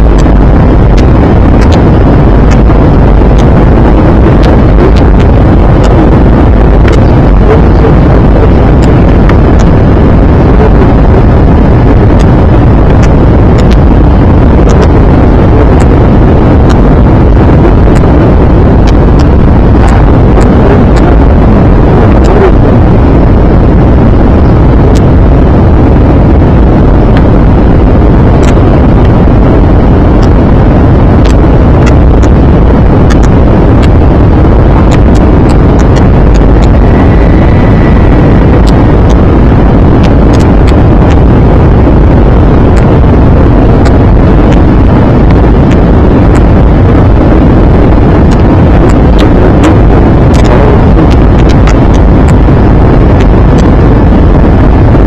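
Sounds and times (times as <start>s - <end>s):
airplane cabin engine rush: 0.0s - 55.0s
crackles: 0.0s - 55.0s.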